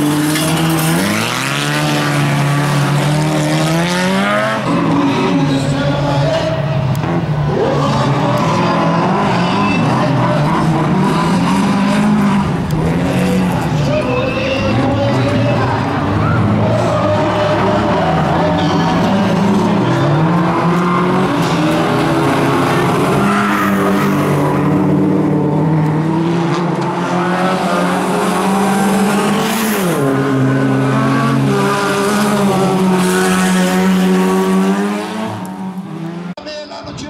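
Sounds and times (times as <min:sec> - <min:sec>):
race car engines revving: 0:00.0 - 0:36.4
tyres skidding: 0:00.0 - 0:36.4.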